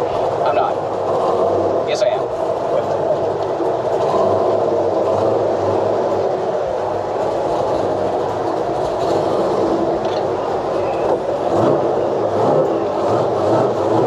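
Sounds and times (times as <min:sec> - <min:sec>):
pickup engine running: 0:00.0 - 0:14.0.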